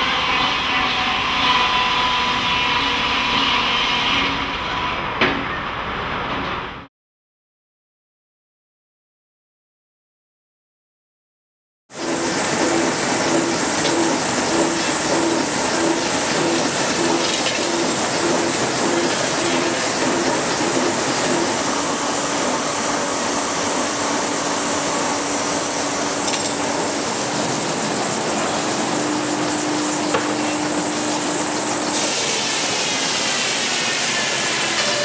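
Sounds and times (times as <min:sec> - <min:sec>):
sawmill machinery rushing noise: 0:00.0 - 0:05.2, 0:11.9 - 0:35.0.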